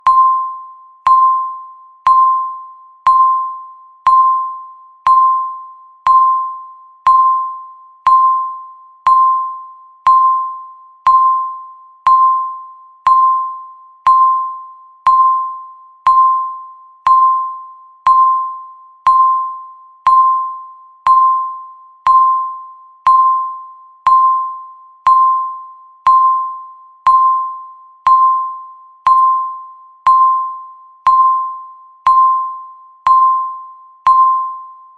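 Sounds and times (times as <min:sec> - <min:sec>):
countdown timer beep: 0:00.0 - 0:34.9.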